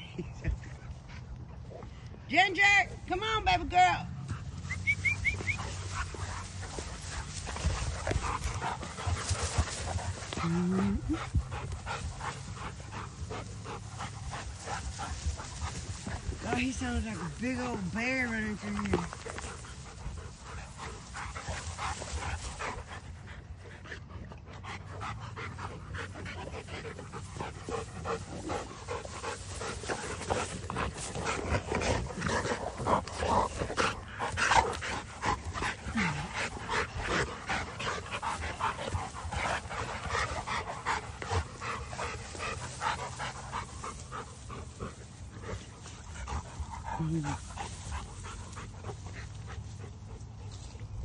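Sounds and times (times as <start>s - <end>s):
dogs panting: 0.0s - 2.3s, 3.8s - 51.0s
rustling through tall grass: 4.4s - 23.7s, 25.0s - 51.0s.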